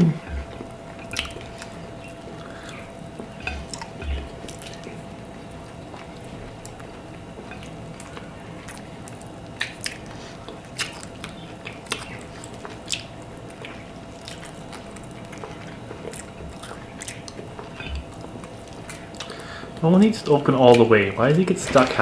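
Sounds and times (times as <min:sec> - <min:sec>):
wet chewing and lip smacking: 0:00.0 - 0:19.8
faint steady hum: 0:00.0 - 0:22.0.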